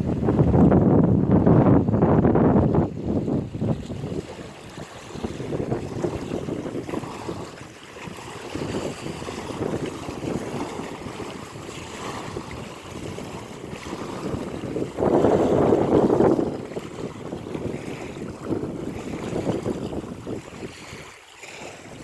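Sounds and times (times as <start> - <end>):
ocean waves washing: 0.0 - 22.0
wind buffeting microphone: 0.0 - 22.0.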